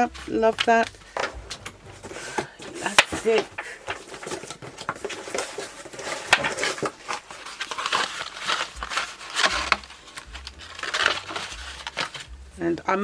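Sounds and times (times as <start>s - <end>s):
paper rustling and crinkling: 0.2s - 12.4s.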